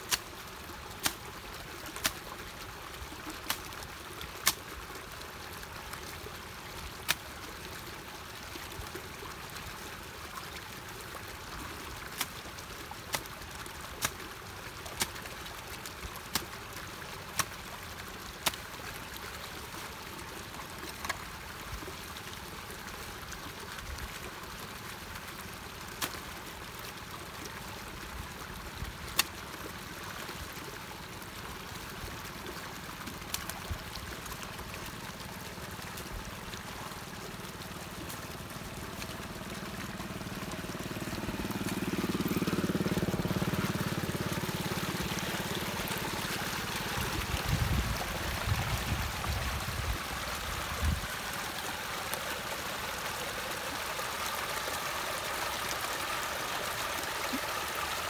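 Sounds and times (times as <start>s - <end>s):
water gushing through culvert: 0.0s - 58.0s.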